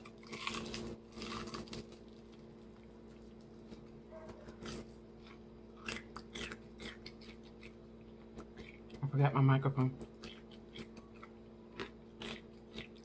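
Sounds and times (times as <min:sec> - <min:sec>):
chewing and crunching food: 0:00.0 - 0:13.0
steady low hum: 0:00.0 - 0:13.0.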